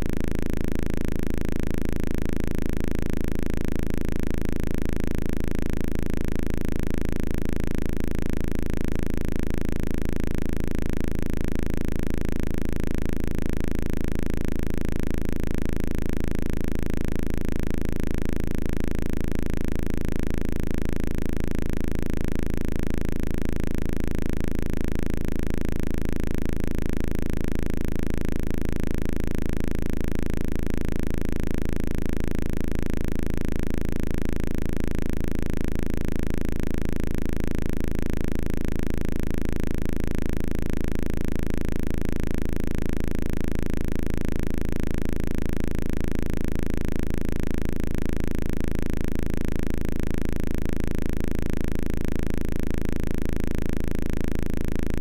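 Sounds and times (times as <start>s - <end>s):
computer speaker buzzing drone: 0.0s - 55.0s.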